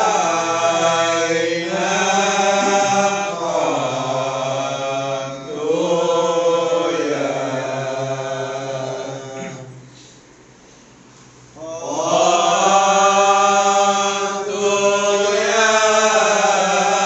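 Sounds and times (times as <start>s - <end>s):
men chanting devotional verses: 0.0s - 9.8s, 11.6s - 17.0s.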